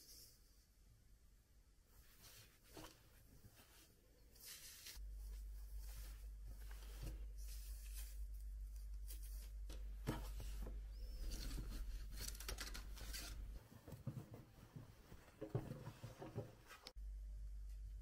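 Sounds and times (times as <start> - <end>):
low steady hum: 0.0 - 18.0
cloth rustling: 1.9 - 17.0.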